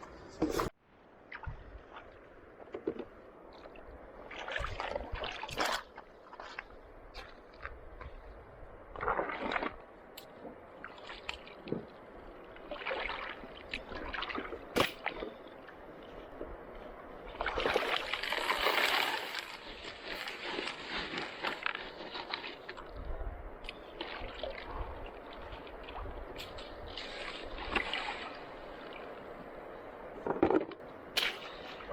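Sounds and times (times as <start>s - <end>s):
water sloshing and splashing: 0.2s - 31.9s.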